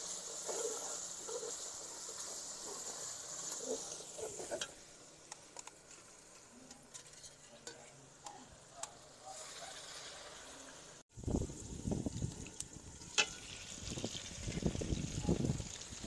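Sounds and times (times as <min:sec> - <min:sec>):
sauce sizzling in a pan: 0:00.0 - 0:07.0, 0:09.0 - 0:16.0.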